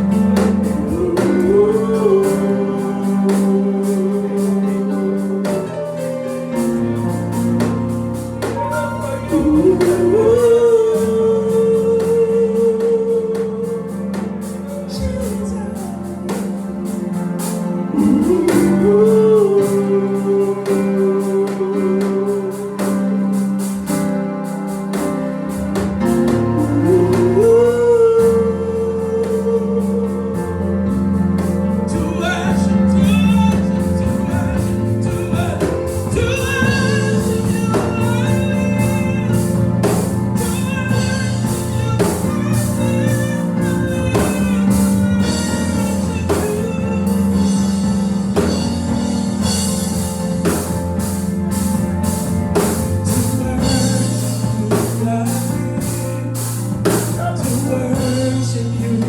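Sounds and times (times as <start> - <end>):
people singing: 0.0 - 23.6, 25.5 - 59.0
drum kit beat: 0.0 - 59.0
keyboard chords: 0.0 - 59.0.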